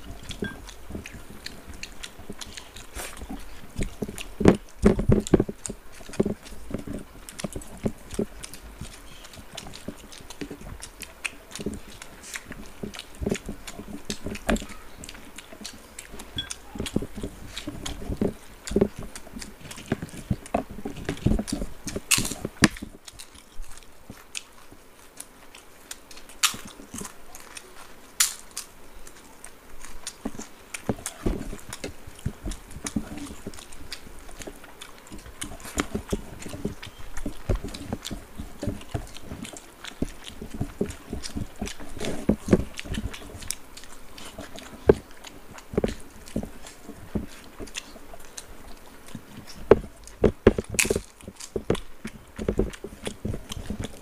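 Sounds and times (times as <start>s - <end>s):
fingers mixing rice on plates: 0.0s - 54.0s
people chewing and mouth smacks: 0.0s - 54.0s.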